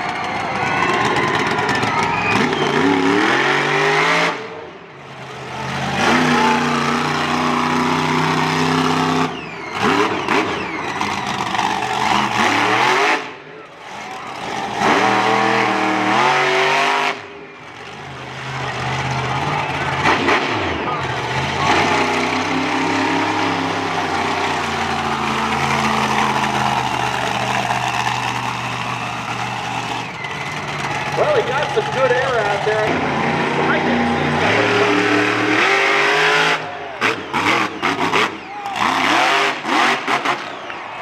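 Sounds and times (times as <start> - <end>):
truck engine revving hard: 0.0 - 41.0.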